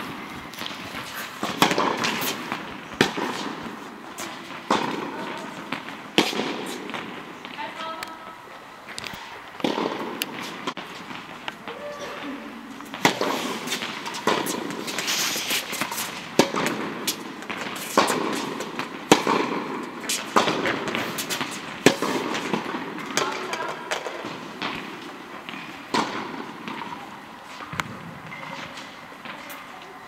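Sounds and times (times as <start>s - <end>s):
tennis balls struck by rackets: 0.0s - 8.2s, 9.0s - 11.8s, 12.7s - 29.4s.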